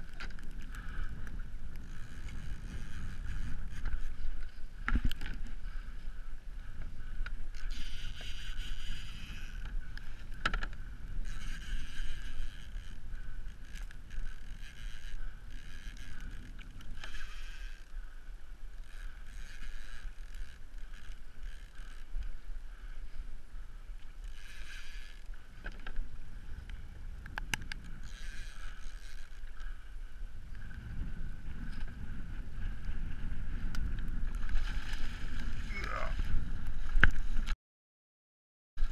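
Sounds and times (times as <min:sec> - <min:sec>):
water splashing against kayak: 0:00.0 - 0:37.6
wind rumble on microphone: 0:00.0 - 0:37.6.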